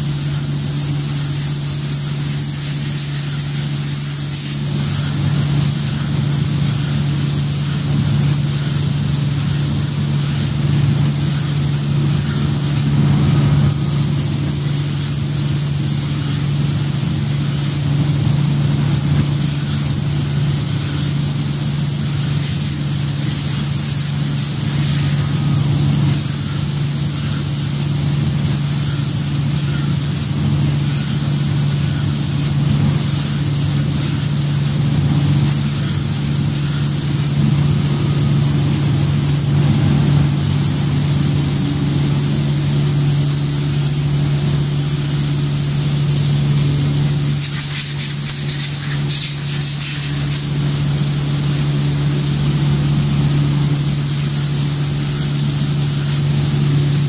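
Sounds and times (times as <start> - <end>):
machine low hum: 0.0 - 57.0
spray hiss: 0.0 - 57.0.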